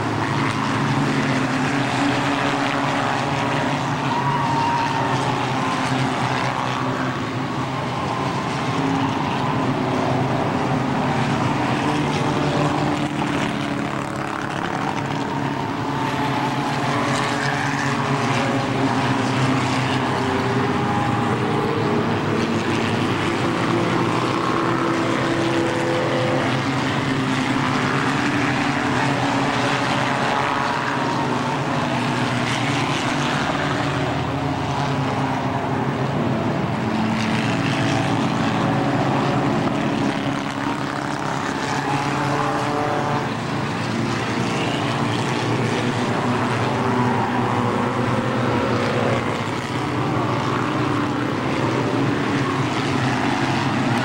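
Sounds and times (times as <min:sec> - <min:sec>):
racing car engines droning: 0:00.0 - 0:54.0.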